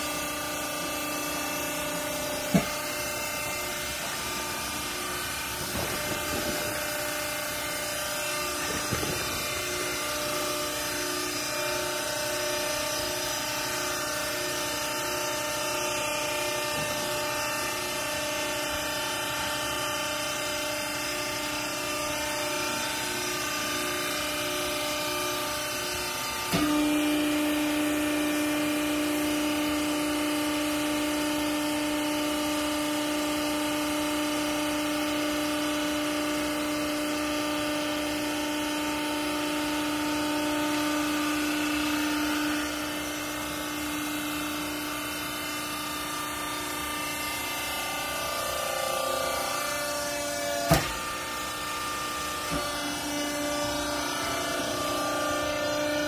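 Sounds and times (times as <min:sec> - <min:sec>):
hydraulic pump motor humming: 0:00.0 - 0:56.0.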